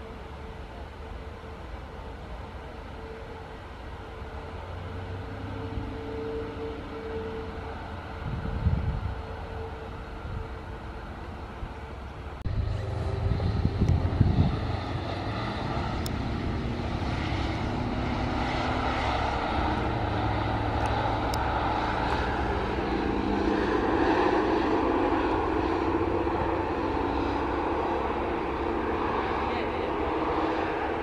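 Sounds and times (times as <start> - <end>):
aircraft engine rumble: 0.0 - 31.0.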